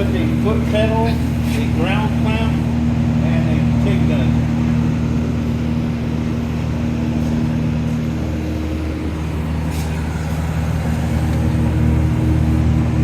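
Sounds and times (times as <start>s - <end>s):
welder electrical hum: 0.0s - 13.0s.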